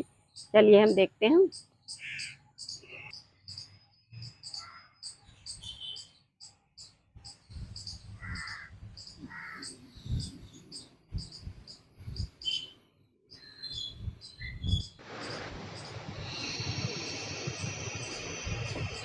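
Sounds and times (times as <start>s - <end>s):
harsh bird calls: 0.0s - 19.0s
small birds chirping: 0.0s - 19.0s.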